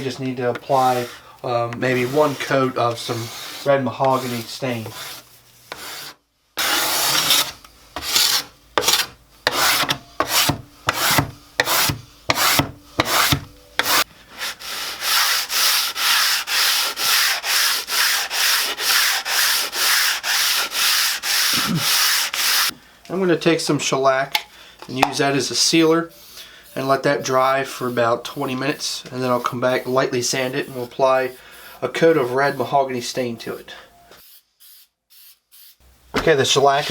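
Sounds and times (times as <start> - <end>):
hand sanding wooden tabletop: 0.0 - 1.2, 1.8 - 22.7, 25.4 - 33.6.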